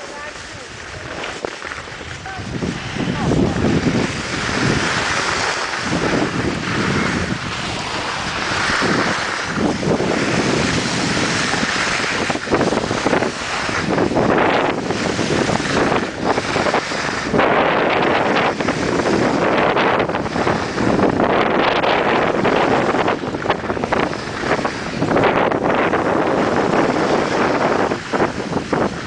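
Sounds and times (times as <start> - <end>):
skis scraping on snow: 0.0 - 29.0
wind buffeting microphone: 0.0 - 29.0.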